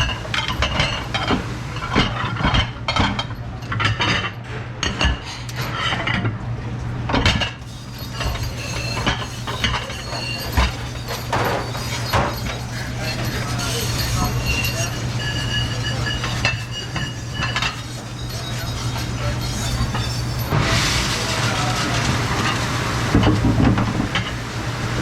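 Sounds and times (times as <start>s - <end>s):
dishes and cutlery clattering: 0.0s - 6.3s, 7.1s - 20.8s, 21.4s - 24.4s.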